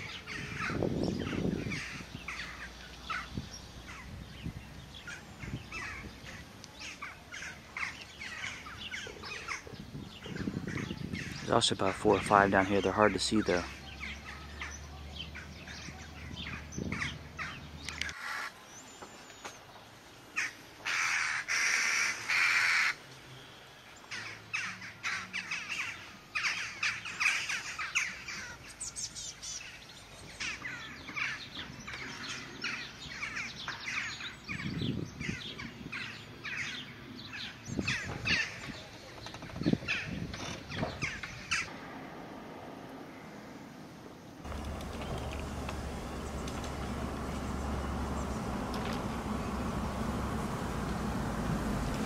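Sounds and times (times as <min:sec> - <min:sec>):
harsh bird calls: 0:00.0 - 0:19.6, 0:20.3 - 0:41.7, 0:44.4 - 0:52.0
birds calling and singing: 0:00.0 - 0:41.7, 0:44.4 - 0:52.0.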